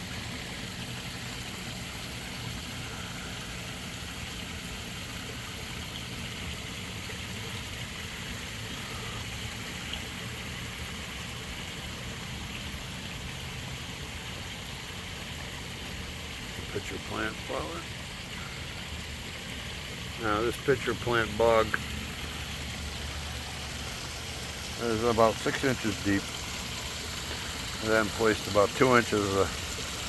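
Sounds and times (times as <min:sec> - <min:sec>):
water trickling in pond: 0:00.0 - 0:30.0.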